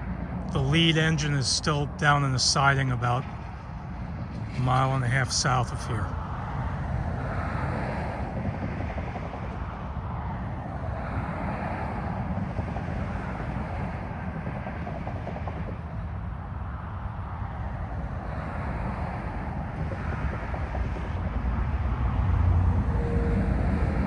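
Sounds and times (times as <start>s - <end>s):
distant freight train rumble: 0.0s - 24.0s.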